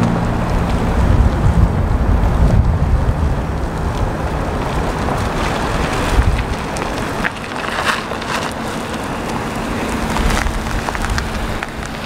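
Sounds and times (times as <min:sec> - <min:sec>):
car driving slowly: 0:00.0 - 0:12.0
wind buffeting microphone: 0:00.0 - 0:12.0.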